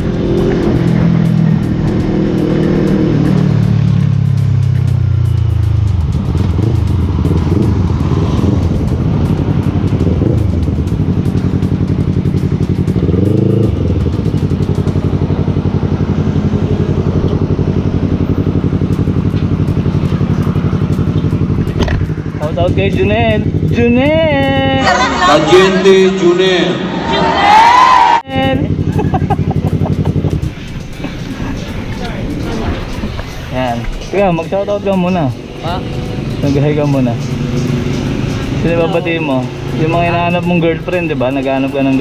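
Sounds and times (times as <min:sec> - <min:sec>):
motorcycle engine revving and idling: 0:00.0 - 0:25.6, 0:28.2 - 0:42.0.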